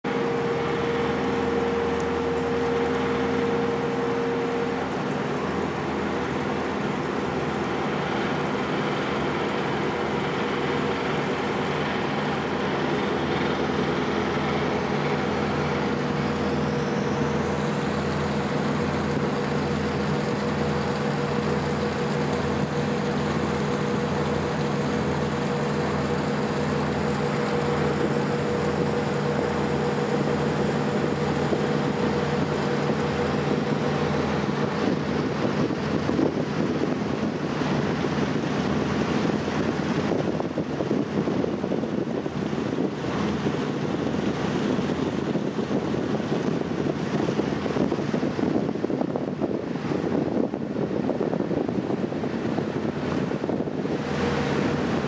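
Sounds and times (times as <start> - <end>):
ferry engines droning: 0.0 - 55.0.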